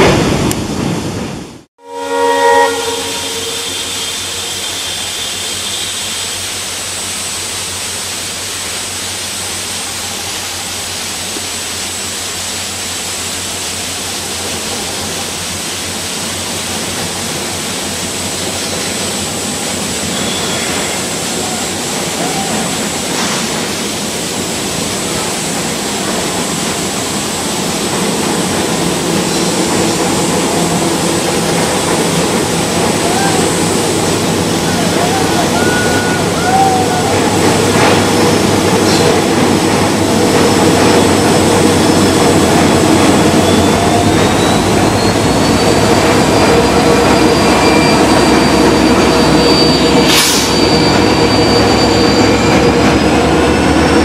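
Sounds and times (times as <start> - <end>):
diesel locomotive roaring: 0.0 - 54.0
rushing hiss of train: 2.1 - 54.0.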